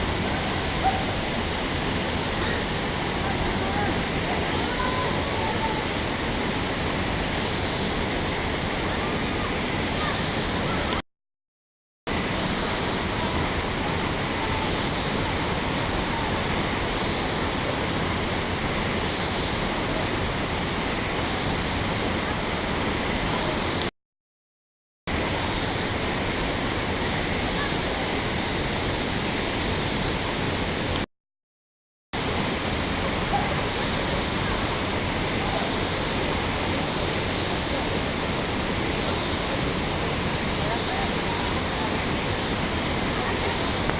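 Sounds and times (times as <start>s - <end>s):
waterfall rushing: 0.0s - 11.0s, 12.1s - 23.9s, 25.1s - 31.0s, 32.2s - 43.9s.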